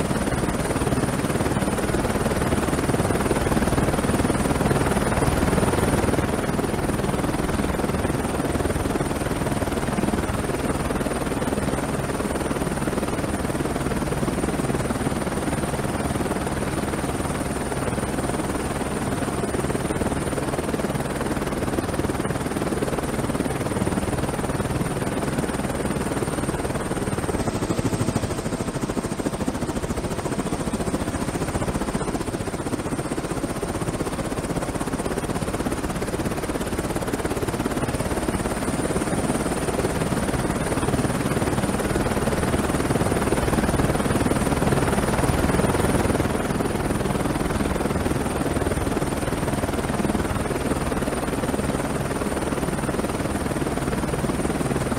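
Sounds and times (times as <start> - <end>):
helicopter rotor and engine rumble: 0.0 - 54.9.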